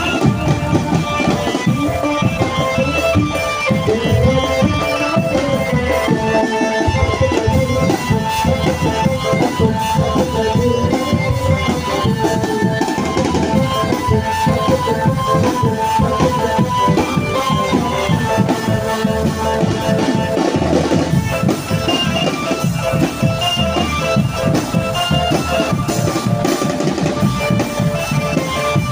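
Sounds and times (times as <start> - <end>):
drum band playing: 0.0 - 28.9
repeating melodic line: 0.0 - 28.9.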